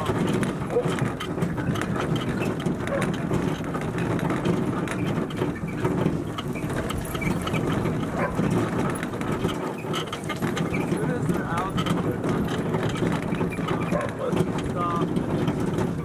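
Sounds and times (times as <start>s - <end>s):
small clicks and rattles: 0.0s - 16.0s
wheels and paws crunching on gravel: 0.0s - 16.0s.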